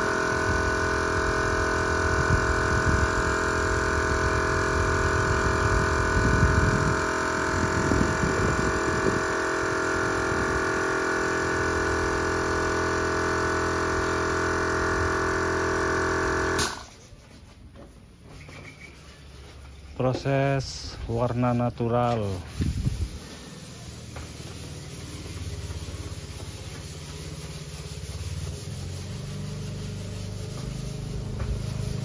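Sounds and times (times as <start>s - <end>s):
air compressor running: 0.0s - 16.9s, 22.2s - 32.0s.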